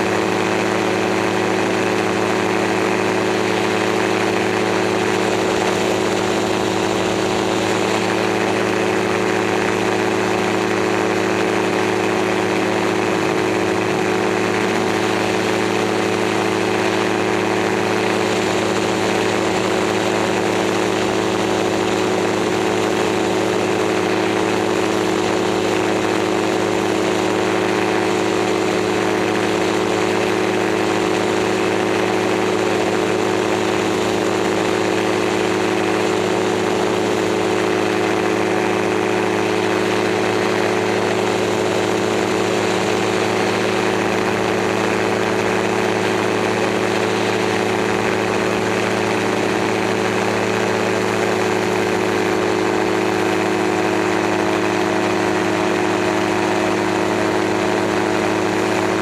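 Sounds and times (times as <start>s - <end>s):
aircraft engine droning: 0.0s - 59.0s.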